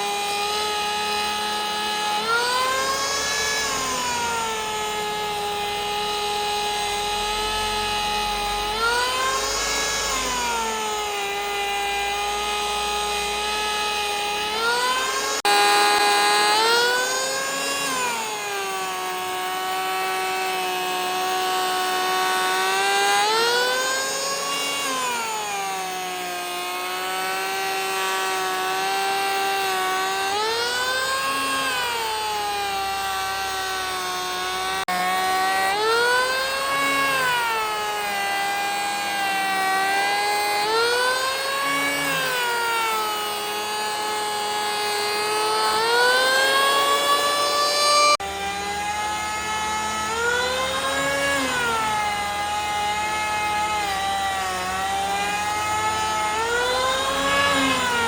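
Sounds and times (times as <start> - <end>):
power tool motor whining: 0.0 - 58.0.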